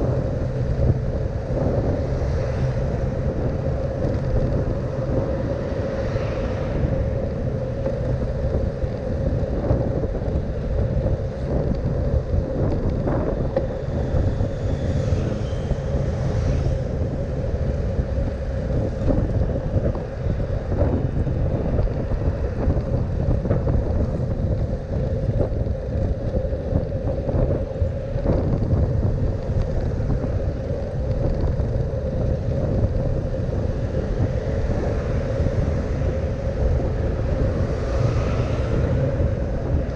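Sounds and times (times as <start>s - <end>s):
constant hum: 0.0s - 39.9s
wind rushing over microphone: 0.0s - 39.9s.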